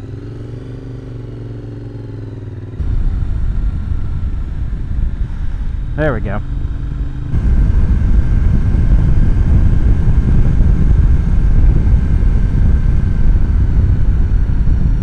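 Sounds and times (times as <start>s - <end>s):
motorcycle engine rumble: 0.0s - 15.0s
wind buffeting microphone: 2.8s - 15.0s.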